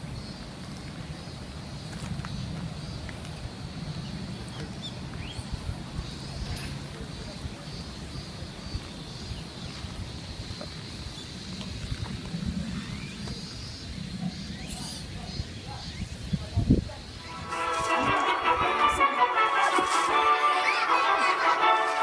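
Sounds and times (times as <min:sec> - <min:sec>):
wind rumbling on microphone: 0:00.2 - 0:18.9.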